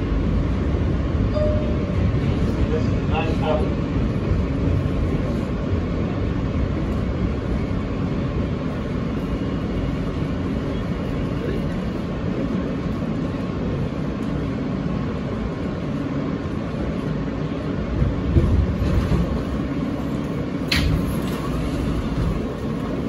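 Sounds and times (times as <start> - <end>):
subway train rumble: 0.0 - 23.0.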